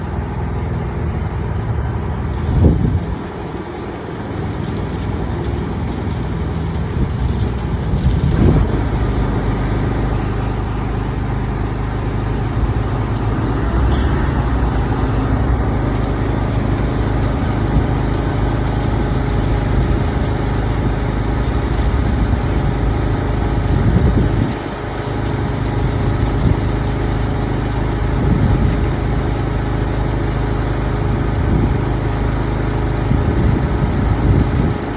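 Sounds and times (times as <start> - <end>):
motor running: 0.0 - 34.9.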